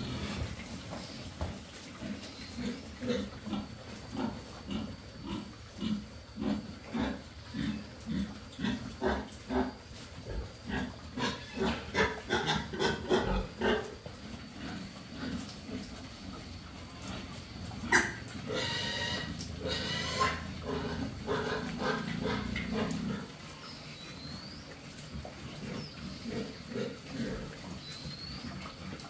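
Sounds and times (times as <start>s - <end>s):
pigs grunting: 0.0s - 29.0s.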